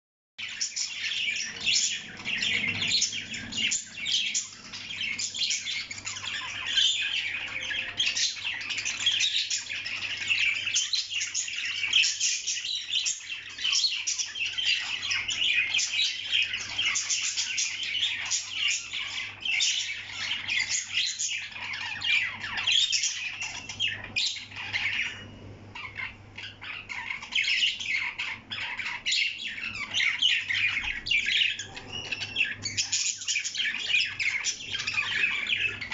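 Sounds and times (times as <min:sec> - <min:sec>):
parrot chirping and squawking: 0:00.4 - 0:35.9.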